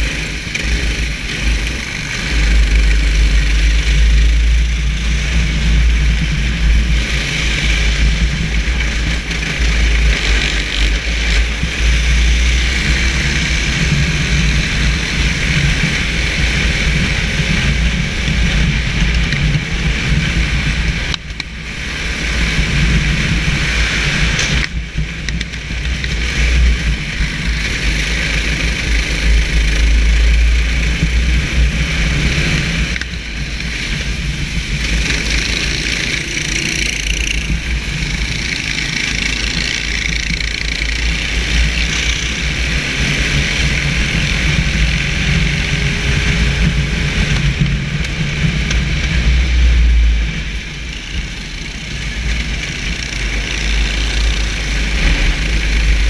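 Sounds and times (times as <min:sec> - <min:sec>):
kart engine running hard: 0:00.0 - 0:56.0
tyres on wet track: 0:00.0 - 0:56.0
wind: 0:00.0 - 0:56.0.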